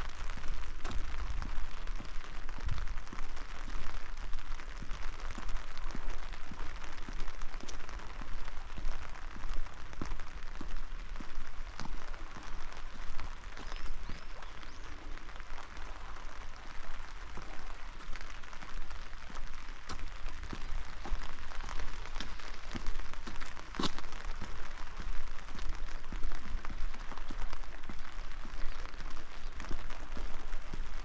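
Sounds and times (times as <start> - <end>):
rain falling: 0.0 - 31.0
raindrops ticking: 0.0 - 31.0.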